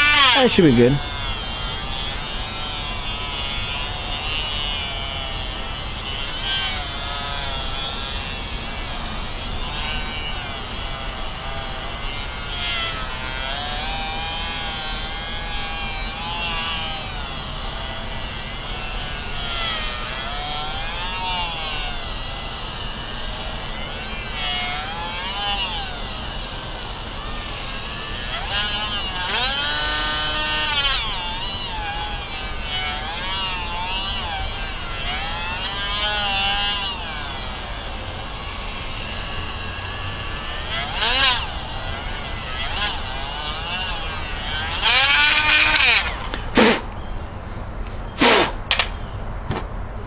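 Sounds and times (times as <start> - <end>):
rotary tool grinding rubber: 0.0 - 47.0, 48.2 - 48.8.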